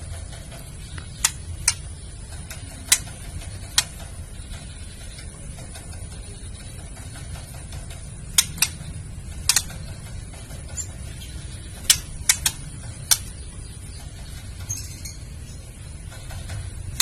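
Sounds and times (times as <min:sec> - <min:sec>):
steady low hum: 0:00.0 - 0:17.0
bird sharp dry clicks: 0:00.5 - 0:14.8.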